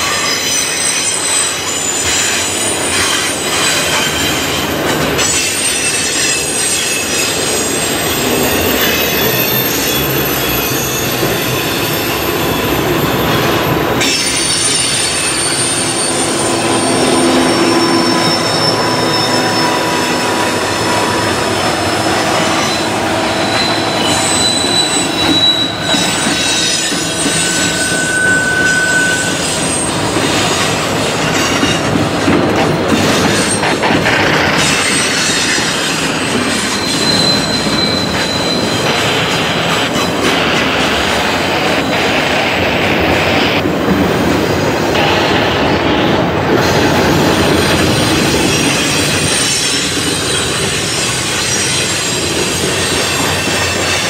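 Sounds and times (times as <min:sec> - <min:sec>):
high wheel squeals: 0:00.0 - 0:31.9, 0:33.1 - 0:42.2, 0:45.0 - 0:54.0
freight train rumbling past: 0:00.0 - 0:54.0.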